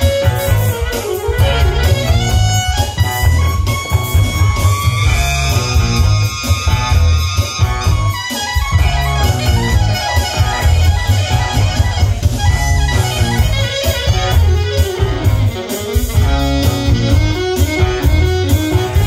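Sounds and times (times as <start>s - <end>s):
electric guitar: 0.0s - 19.0s
live band playing: 0.0s - 19.0s
pulsing electric bass line: 0.0s - 19.0s.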